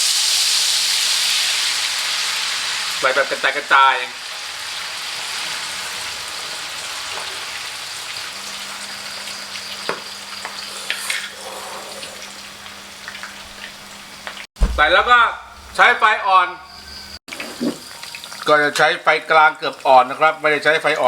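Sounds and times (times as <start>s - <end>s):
batter frying in hot oil: 0.0s - 14.4s, 17.3s - 21.0s.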